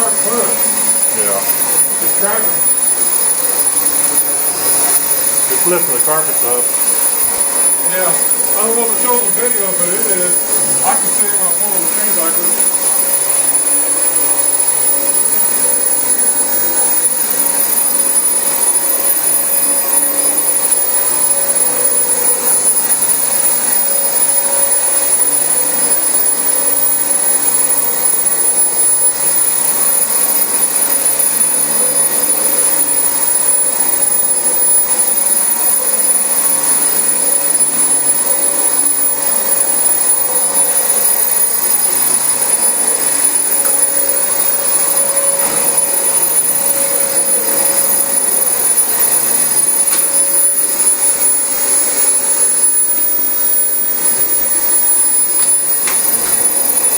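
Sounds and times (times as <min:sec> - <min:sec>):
vacuum cleaner running on carpet: 0:00.0 - 0:56.9.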